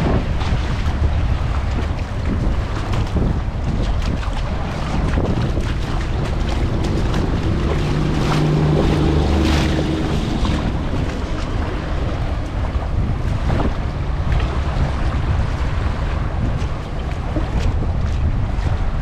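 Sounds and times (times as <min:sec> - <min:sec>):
low engine-like hum: 0:00.0 - 0:19.0
surf on a beach: 0:00.0 - 0:19.0
wind buffeting microphone: 0:00.0 - 0:19.0.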